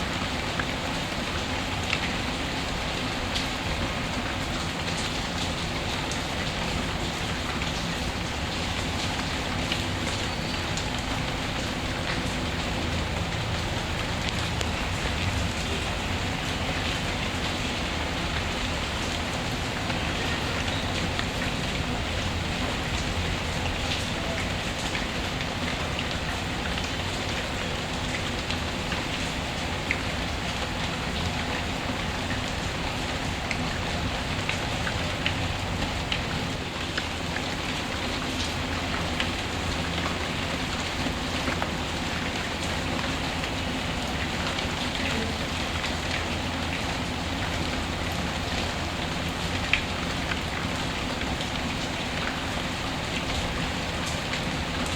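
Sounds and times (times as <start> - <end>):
steady hiss of rain: 0.0 - 54.9.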